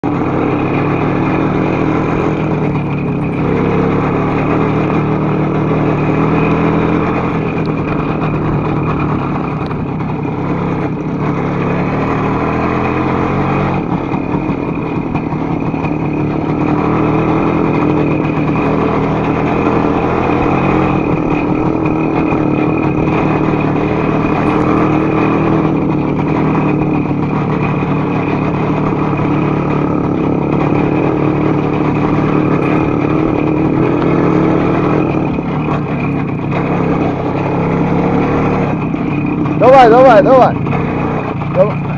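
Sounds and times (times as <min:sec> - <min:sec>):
two-stroke motorcycle engine running: 0:00.0 - 0:41.9.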